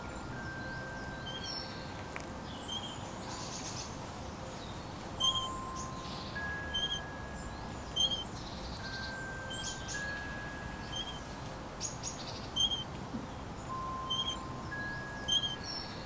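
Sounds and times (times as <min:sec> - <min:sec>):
birds calling: 0:00.0 - 0:01.9, 0:02.5 - 0:03.9, 0:05.2 - 0:12.9, 0:13.6 - 0:16.0
playground swing squeaking: 0:00.0 - 0:03.3, 0:05.1 - 0:16.0.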